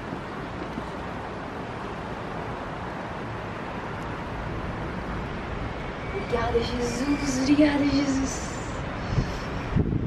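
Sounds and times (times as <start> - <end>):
rain falling: 0.0 - 9.0
wind noise on microphone: 0.0 - 10.0.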